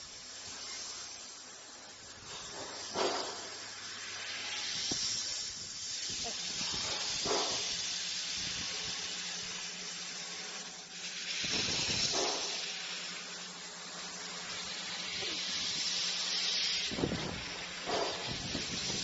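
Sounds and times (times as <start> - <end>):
assist gas hissing: 0.0 - 19.0.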